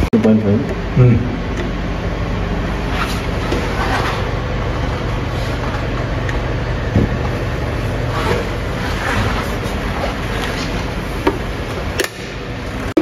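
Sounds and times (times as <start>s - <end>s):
diesel generator droning: 0.0s - 13.0s.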